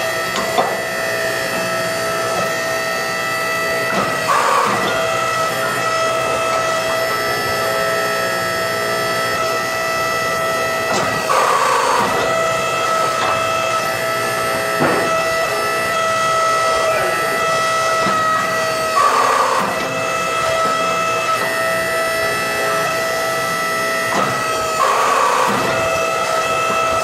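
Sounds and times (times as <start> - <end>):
hydraulic press whining: 0.0 - 27.0.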